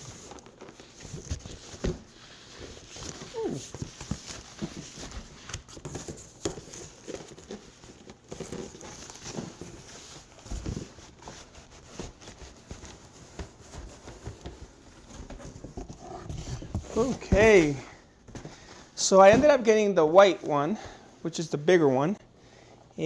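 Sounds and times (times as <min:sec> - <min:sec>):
packaging rustling and crinkling: 0:00.0 - 0:19.7.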